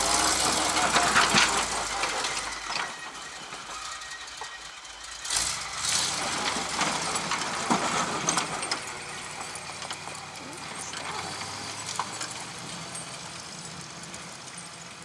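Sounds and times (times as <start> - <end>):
dump truck engine running: 0.0 - 15.0.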